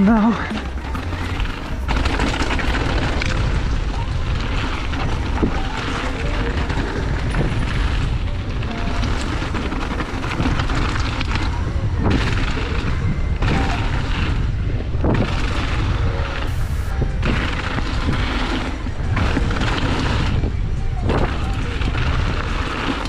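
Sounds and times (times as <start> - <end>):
bike tyres and frame rattling: 0.0 - 23.0
wind buffeting microphone: 0.0 - 23.0.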